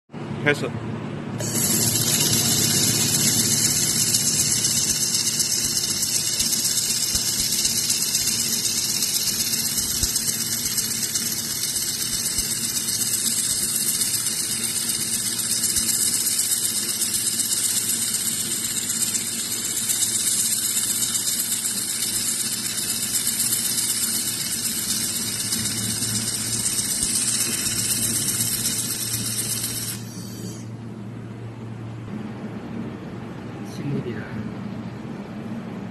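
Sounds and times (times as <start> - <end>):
laser welding machine hissing: 1.4 - 30.7.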